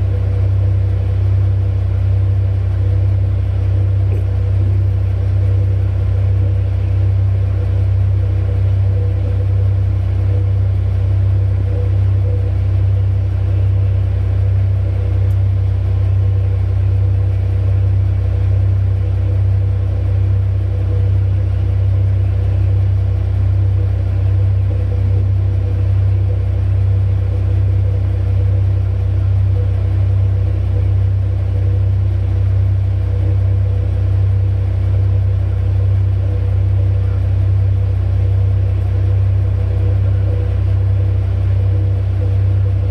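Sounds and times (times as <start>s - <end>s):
heavy diesel machinery drone: 0.0s - 42.9s.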